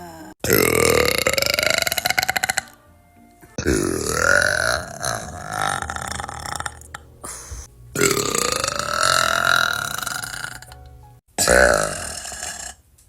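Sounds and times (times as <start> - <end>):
women burping: 0.0 - 2.7, 3.6 - 10.8, 11.4 - 12.8.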